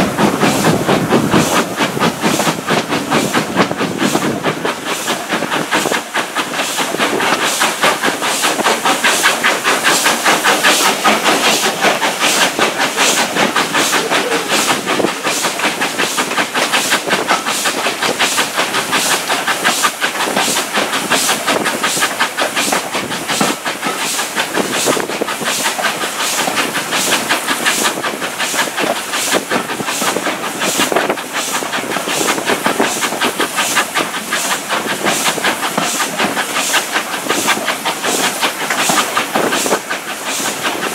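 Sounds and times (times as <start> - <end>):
steam exhaust chuffs: 0.0 - 40.9
steam train hissing: 0.0 - 40.9
wheels clicking over rails: 0.0 - 40.9.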